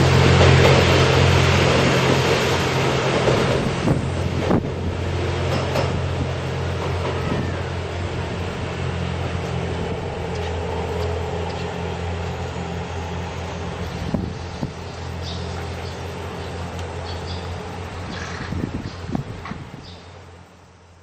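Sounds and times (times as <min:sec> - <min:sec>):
train rumbling on tracks: 0:00.0 - 0:21.0.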